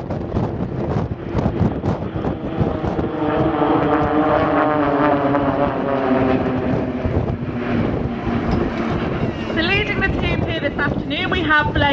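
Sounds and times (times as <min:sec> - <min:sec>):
propeller aircraft flying past: 0:00.0 - 0:11.9
wind buffeting microphone: 0:00.0 - 0:11.9.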